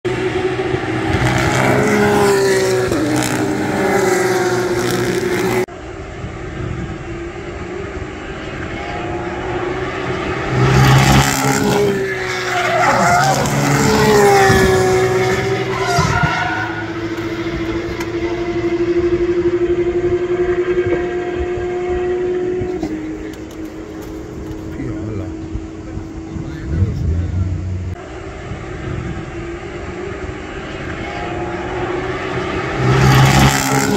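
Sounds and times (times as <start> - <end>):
race car engines revving: 0.1 - 33.9.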